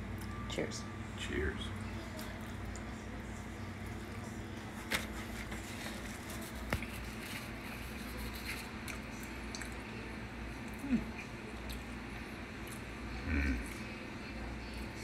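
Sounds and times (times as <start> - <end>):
steady low hum: 0.0 - 15.0
people chewing: 2.1 - 14.9.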